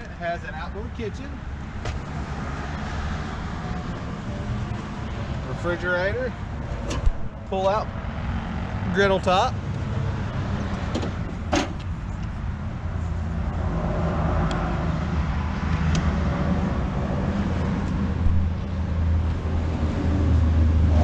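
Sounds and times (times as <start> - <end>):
traffic noise: 0.0 - 21.0.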